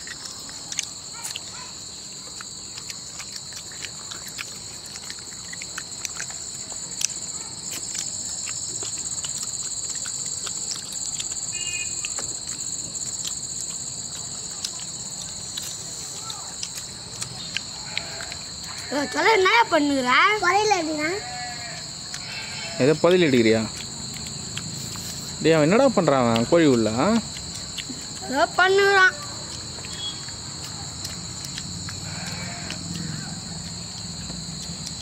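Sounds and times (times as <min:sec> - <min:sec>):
insect chorus trilling: 0:00.0 - 0:35.0
people eating with their hands: 0:00.0 - 0:35.0.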